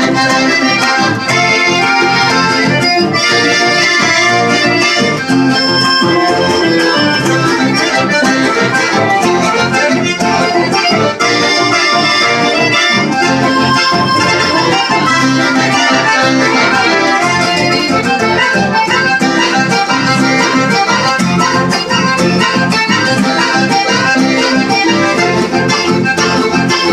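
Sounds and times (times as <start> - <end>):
accordion folk tune: 0.0 - 26.9.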